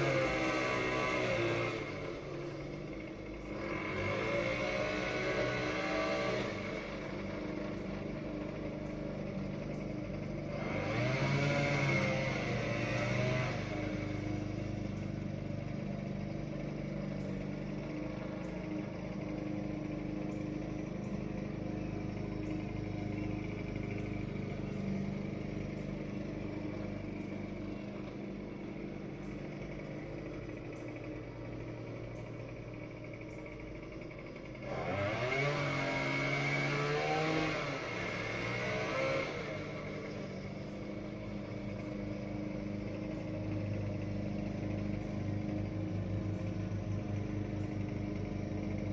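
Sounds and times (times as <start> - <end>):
small petrol engine running: 0.0 - 48.9.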